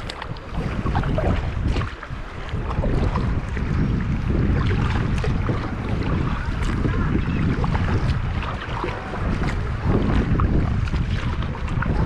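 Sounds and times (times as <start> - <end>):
waves splashing against kayak: 0.0 - 12.0
wind buffeting microphone: 0.0 - 12.0.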